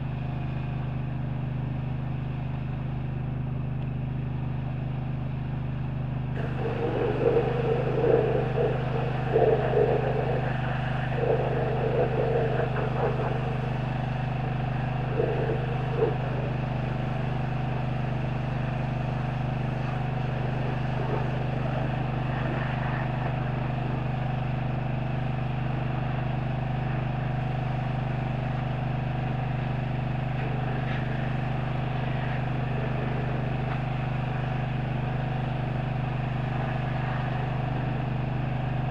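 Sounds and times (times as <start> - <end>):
engine hum: 0.0 - 38.9.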